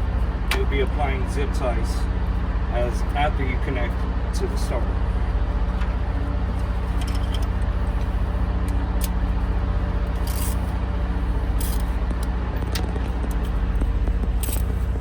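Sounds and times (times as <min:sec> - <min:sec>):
engine idling low drone: 0:00.0 - 0:15.0.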